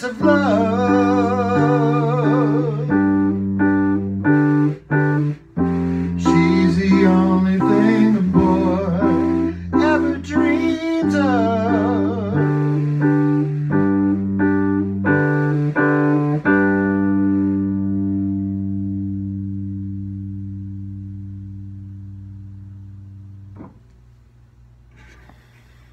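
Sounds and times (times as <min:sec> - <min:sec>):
electric piano playing chords: 0:00.0 - 0:23.8.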